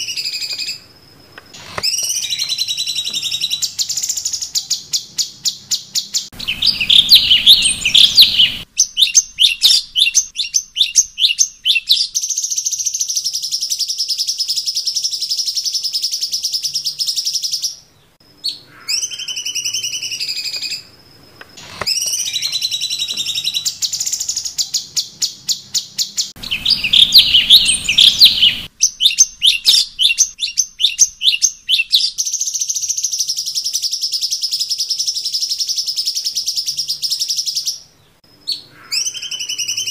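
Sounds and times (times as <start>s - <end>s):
bird chirping and trilling: 0.0s - 1.0s, 1.6s - 21.0s, 21.6s - 39.9s.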